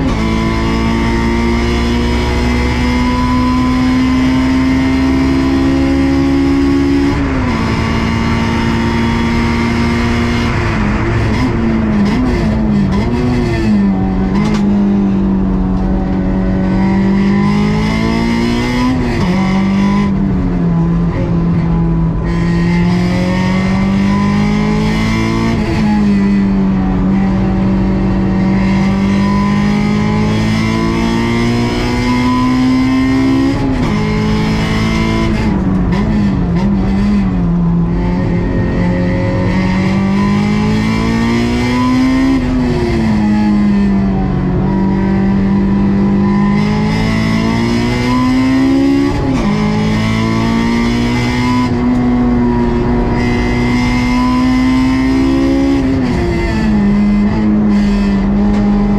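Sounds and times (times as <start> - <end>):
car engine revving hard: 0.0 - 58.9.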